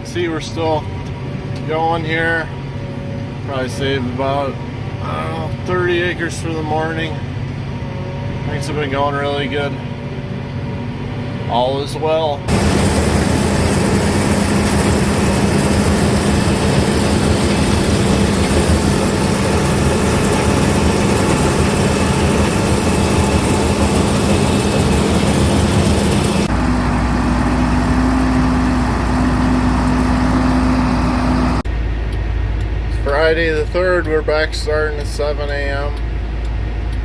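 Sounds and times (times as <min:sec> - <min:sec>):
heavy machinery engine drone: 0:00.0 - 0:37.0.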